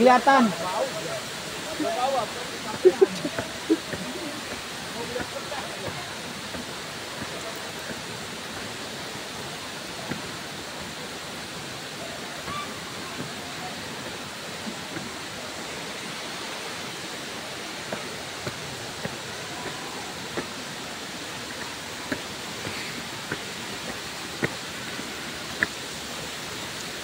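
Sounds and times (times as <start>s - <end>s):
rushing water: 0.0s - 27.0s
footsteps on stone steps: 1.8s - 11.8s, 12.5s - 26.9s.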